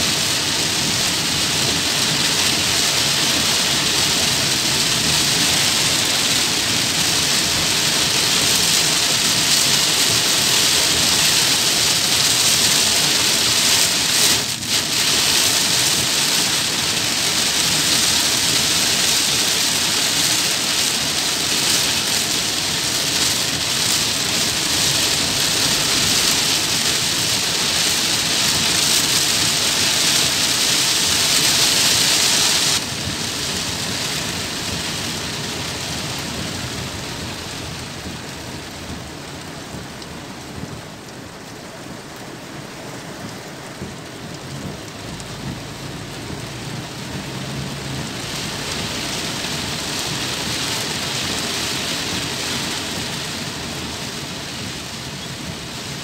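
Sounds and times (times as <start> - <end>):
heavy rain on a car roof: 0.0 - 56.0.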